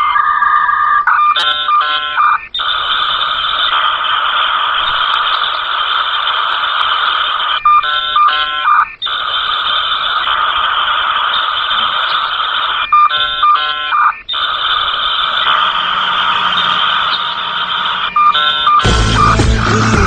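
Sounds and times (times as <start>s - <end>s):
alarm ringing: 0.0s - 3.9s, 5.0s - 19.6s.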